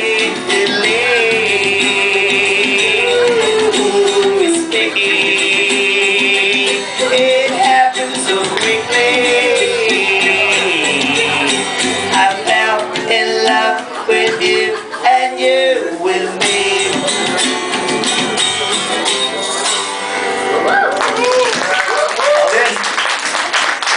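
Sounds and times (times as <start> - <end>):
band playing a song: 0.0 - 20.7.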